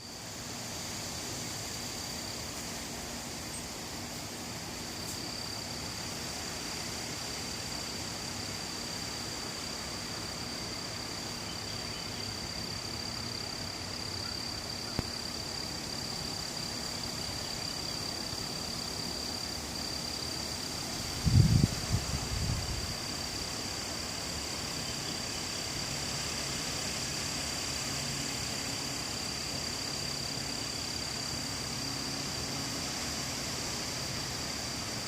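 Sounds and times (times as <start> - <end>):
even hiss: 0.0 - 35.0.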